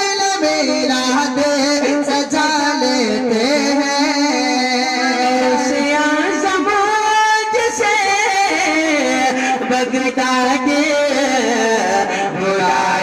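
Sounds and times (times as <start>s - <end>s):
man singing through microphones: 0.0s - 13.0s.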